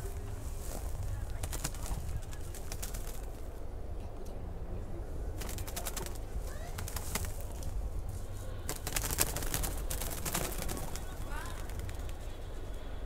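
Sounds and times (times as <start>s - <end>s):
dry leaves and twigs crackling: 0.0s - 3.6s, 5.4s - 12.8s
steady low rumble: 0.0s - 13.0s.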